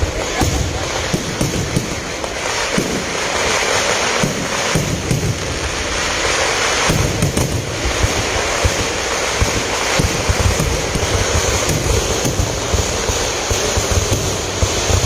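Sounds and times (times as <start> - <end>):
fireworks booming and cracking: 0.0 - 15.0.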